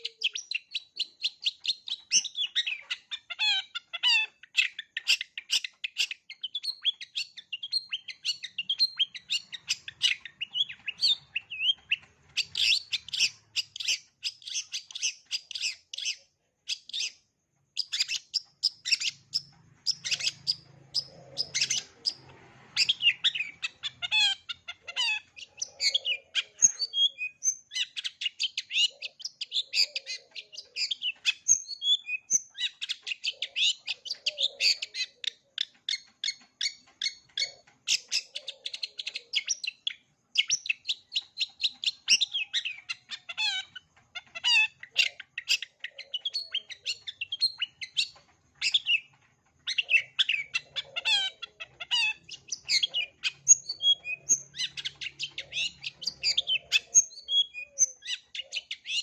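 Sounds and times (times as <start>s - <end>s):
bird singing chattering notes: 0.0s - 59.0s.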